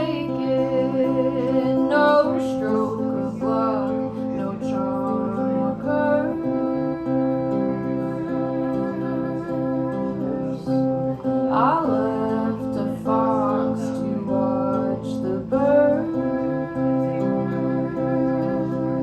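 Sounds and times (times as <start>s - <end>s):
acoustic guitar playing: 0.0s - 19.0s
woman singing: 0.0s - 19.0s.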